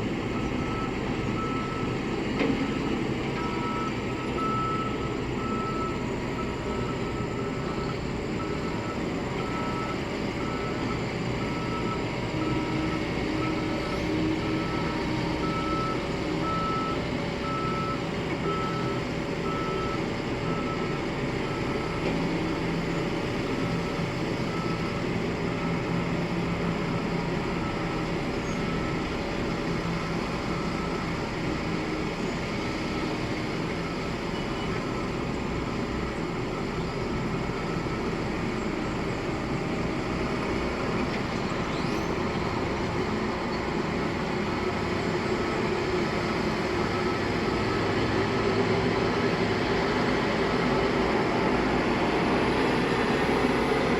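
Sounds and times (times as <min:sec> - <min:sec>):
diesel engines running: 0:00.0 - 0:53.9
reversing alarm beeping: 0:00.4 - 0:02.0, 0:02.6 - 0:32.0, 0:32.6 - 0:41.0, 0:44.1 - 0:53.9.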